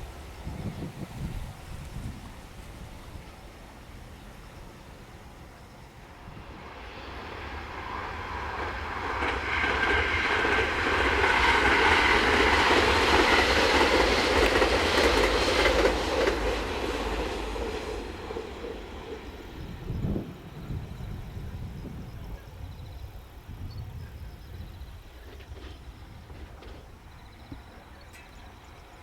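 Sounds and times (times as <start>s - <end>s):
train rumble and wheel noise: 0.0s - 29.0s.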